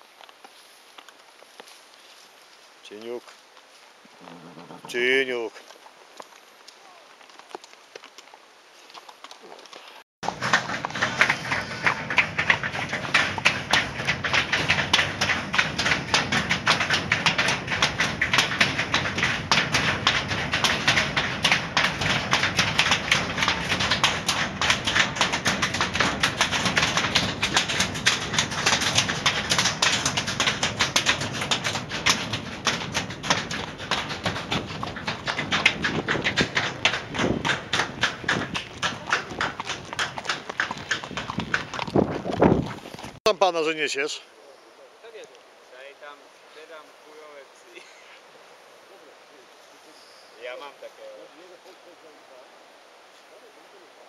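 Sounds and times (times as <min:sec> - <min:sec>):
horse hooves on footbridge: 0:00.0 - 0:44.2.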